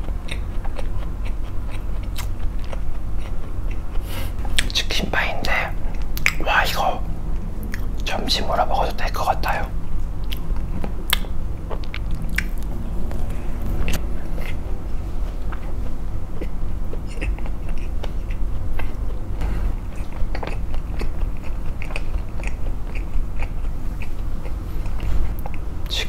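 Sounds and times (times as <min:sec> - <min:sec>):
chewing flaky pastry: 0:00.0 - 0:07.0, 0:10.2 - 0:26.0
steady low hum: 0:00.0 - 0:26.0.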